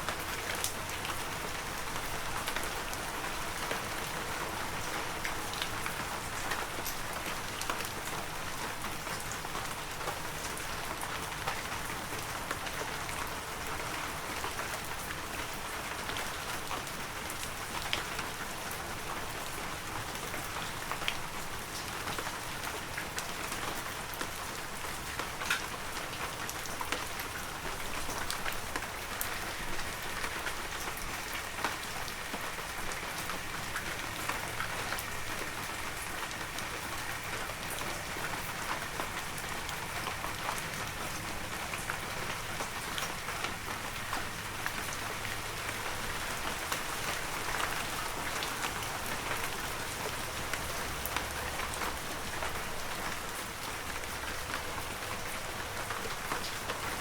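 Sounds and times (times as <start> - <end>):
heavy rain: 0.0 - 57.0
raindrops pattering on surfaces: 0.0 - 57.0.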